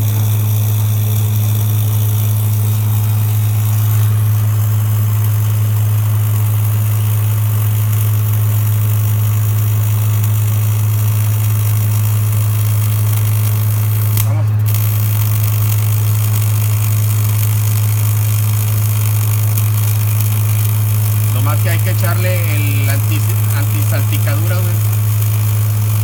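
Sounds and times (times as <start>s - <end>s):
low hum of running equipment: 0.0s - 26.0s.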